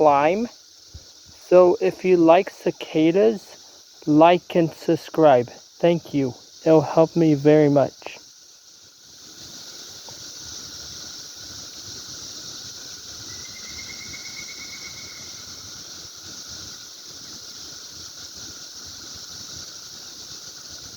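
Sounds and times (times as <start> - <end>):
insects buzzing: 0.0 - 20.9.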